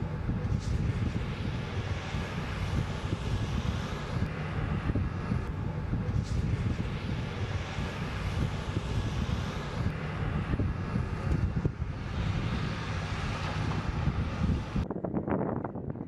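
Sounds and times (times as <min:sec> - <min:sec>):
jet engine rumbling rush: 0:00.0 - 0:16.0.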